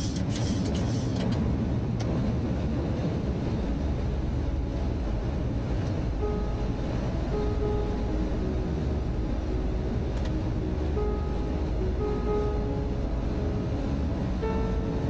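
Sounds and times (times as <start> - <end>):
airflow and engine rumble: 0.0 - 15.0.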